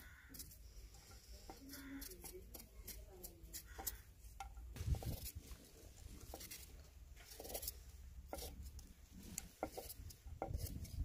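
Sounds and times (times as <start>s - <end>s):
knife scraping potato skin: 0.0s - 4.1s, 6.2s - 11.0s.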